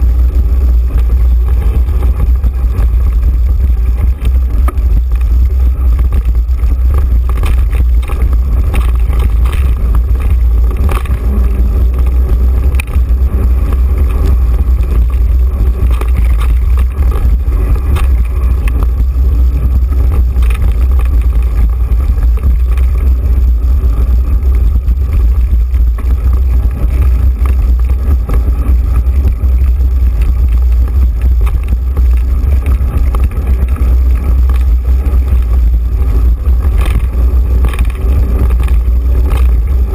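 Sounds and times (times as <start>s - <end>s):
bike knocks and rattles: 0.0s - 39.9s
steady low rumble: 0.0s - 39.9s
wind buffeting microphone: 0.0s - 39.9s.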